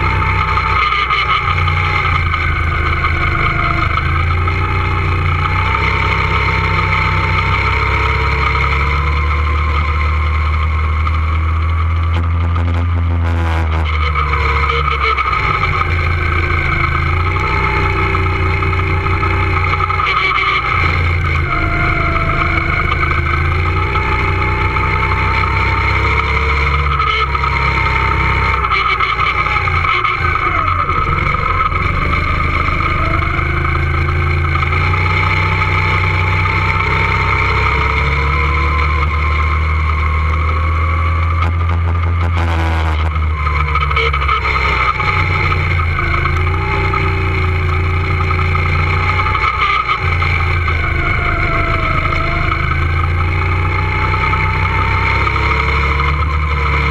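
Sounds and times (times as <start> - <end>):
go-kart motor droning: 0.0 - 56.9.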